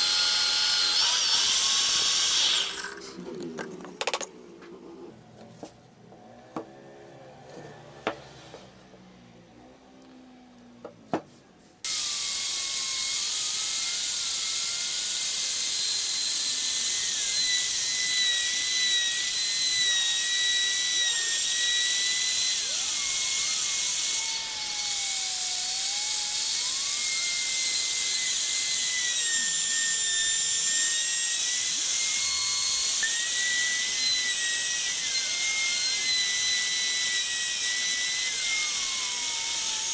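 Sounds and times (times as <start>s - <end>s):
trim router whining: 0.0s - 4.7s, 11.8s - 39.9s.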